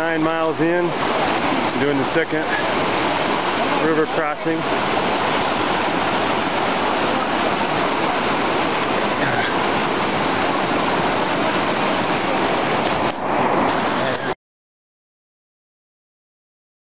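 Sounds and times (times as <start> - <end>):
creek rushing over rocks: 0.0 - 14.4.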